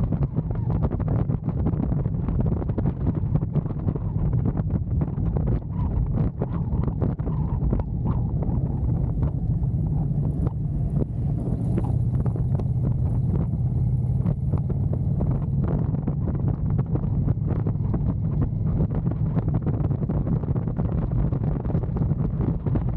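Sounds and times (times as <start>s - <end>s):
motorcycle engine cruising: 0.0s - 22.9s
wind buffeting microphone: 0.0s - 22.9s.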